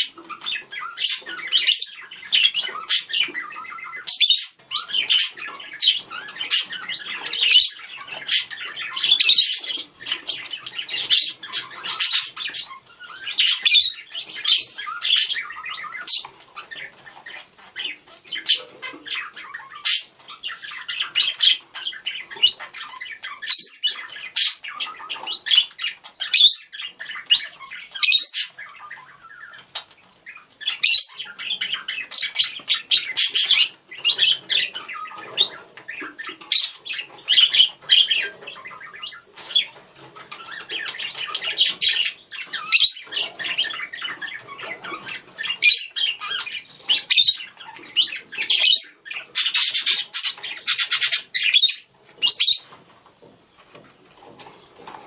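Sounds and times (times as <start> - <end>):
budgerigars chattering and squawking: 0.0 - 55.0.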